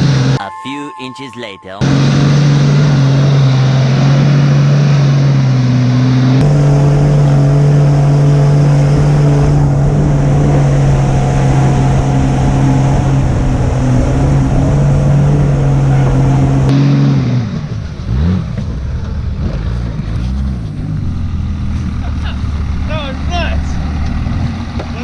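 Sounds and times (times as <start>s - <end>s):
vehicle engine at high revs: 0.0s - 0.4s, 1.8s - 25.0s.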